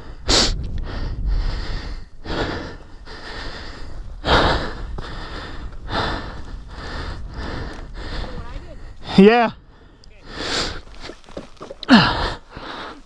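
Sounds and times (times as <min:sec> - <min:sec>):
person breathing hard: 0:00.0 - 0:11.1, 0:11.8 - 0:13.0
low wind rumble: 0:00.0 - 0:11.2.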